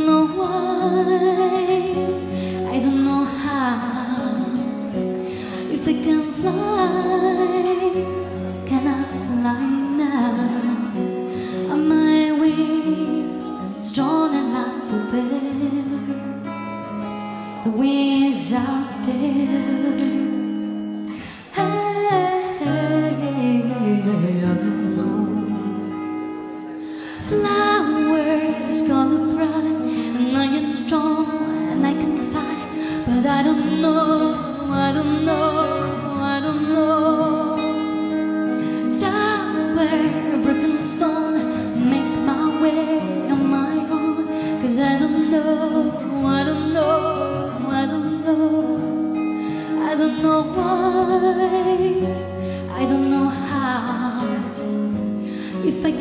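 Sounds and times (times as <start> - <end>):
acoustic guitar: 0.0 - 56.0
woman singing: 0.0 - 56.0.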